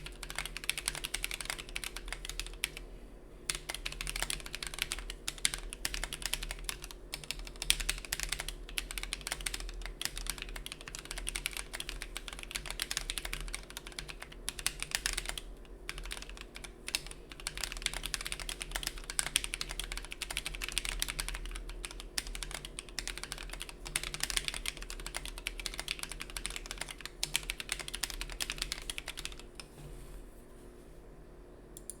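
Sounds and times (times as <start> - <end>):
mechanical keyboard typing: 0.0 - 2.8, 3.5 - 29.7.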